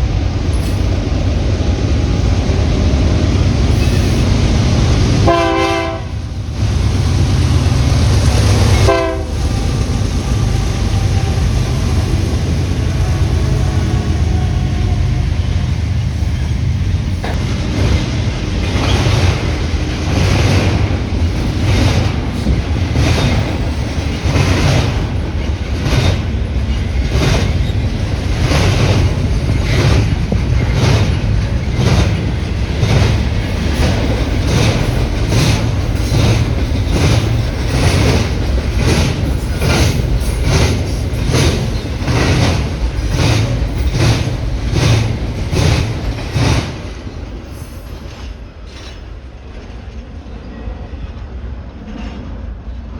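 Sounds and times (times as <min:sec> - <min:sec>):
freight train rumble: 0:00.0 - 0:52.9
train wheels clicking over rail joints: 0:03.3 - 0:50.0.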